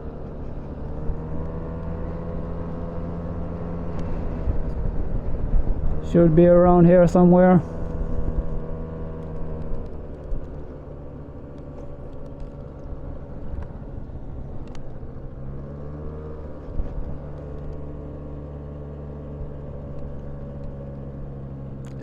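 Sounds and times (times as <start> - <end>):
car engine running: 0.0 - 22.0
road noise: 0.0 - 22.0.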